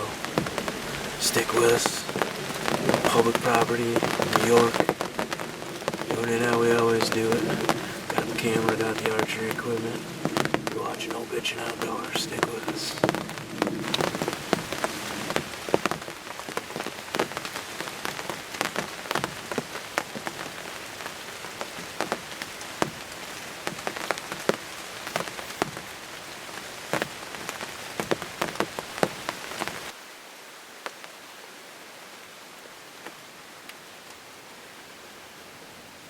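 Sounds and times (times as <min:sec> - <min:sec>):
raindrops ticking on a surface: 0:00.0 - 0:34.4
faint hiss: 0:00.0 - 0:36.0.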